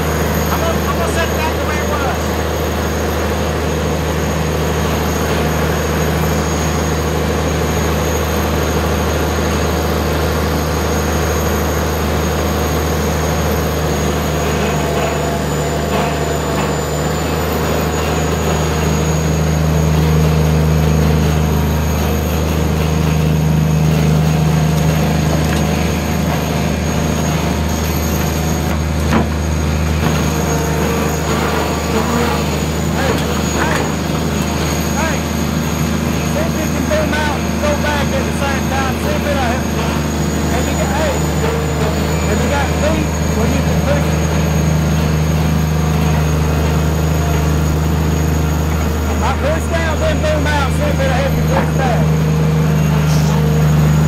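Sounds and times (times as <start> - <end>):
diesel excavator engine running: 0.0 - 54.0
thin high whine: 10.5 - 54.0.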